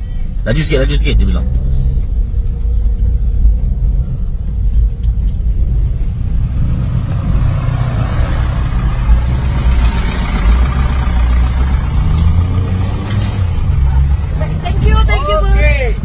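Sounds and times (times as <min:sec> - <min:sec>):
car rumbling on dirt track: 0:00.0 - 0:16.0.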